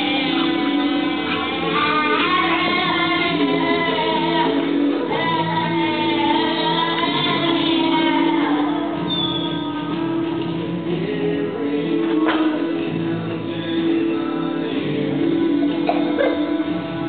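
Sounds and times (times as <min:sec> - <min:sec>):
boy singing into microphone: 0:00.0 - 0:17.0
instrumental backing music: 0:00.0 - 0:17.0.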